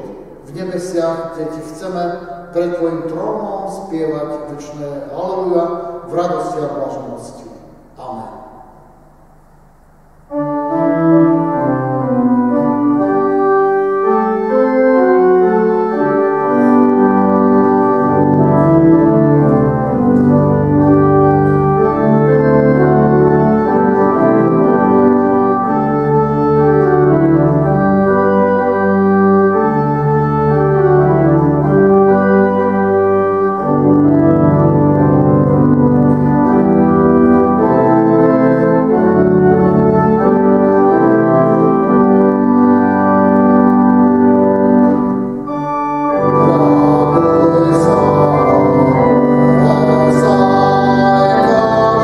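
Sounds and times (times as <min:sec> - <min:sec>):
organ playing a slow hymn: 0:00.0 - 0:52.0.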